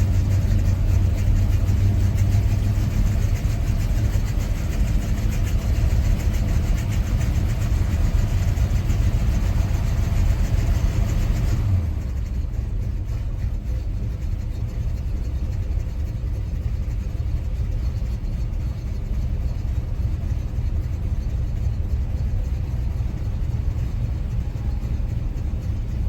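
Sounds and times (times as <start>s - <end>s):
pickup engine idling rough: 0.0s - 26.0s.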